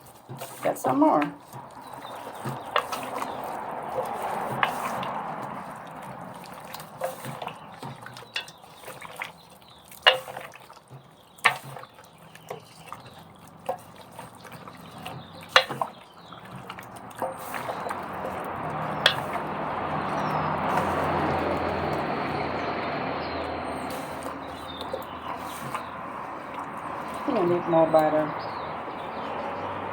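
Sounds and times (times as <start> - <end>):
utensils and containers clinking: 0.0 - 29.4.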